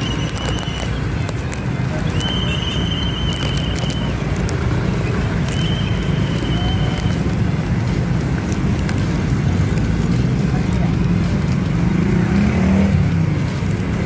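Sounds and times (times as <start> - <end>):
motorbikes and cars passing: 0.0 - 14.0.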